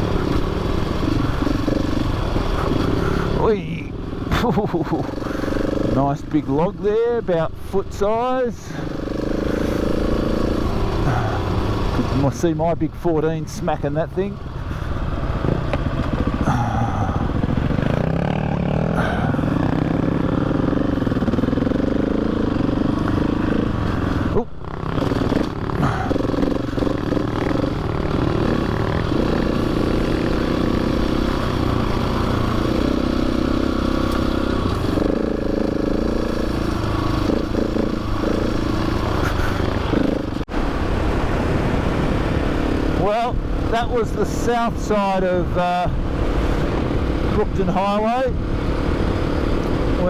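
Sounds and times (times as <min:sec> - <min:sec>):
motorcycle engine revving: 0:00.0 - 0:12.6, 0:13.2 - 0:50.0.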